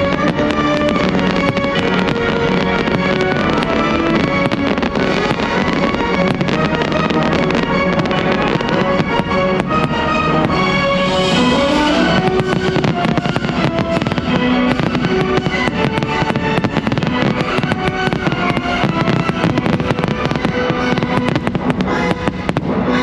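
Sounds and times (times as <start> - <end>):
fireworks crackling and popping: 0.0 - 23.0
orchestral show music: 0.0 - 23.0.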